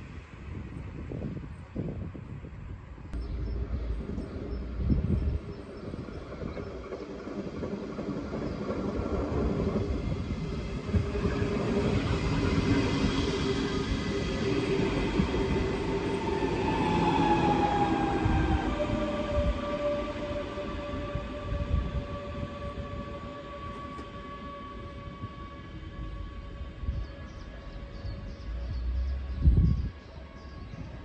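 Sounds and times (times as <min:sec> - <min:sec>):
train rail rumble: 0:00.0 - 0:31.0.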